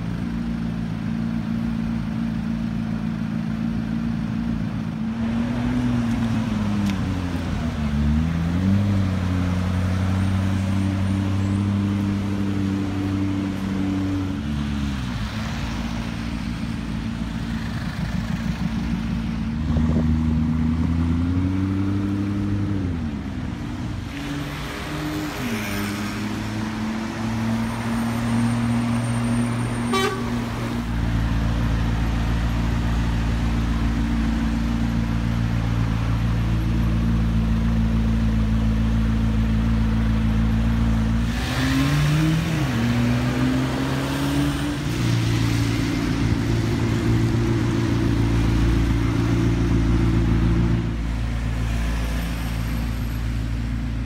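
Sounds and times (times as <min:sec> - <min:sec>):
car engine idling and revving: 0:00.0 - 0:54.0
road traffic: 0:00.0 - 0:54.0.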